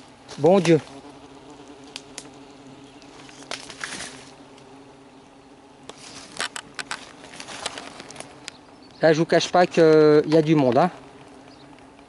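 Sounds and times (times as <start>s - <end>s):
hornets buzzing: 0.0s - 12.0s.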